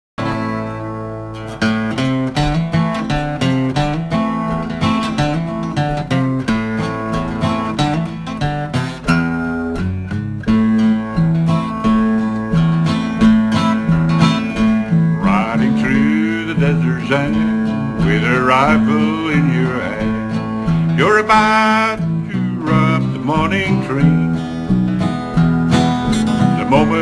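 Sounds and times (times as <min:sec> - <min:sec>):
acoustic guitar playing: 0:00.2 - 0:27.0.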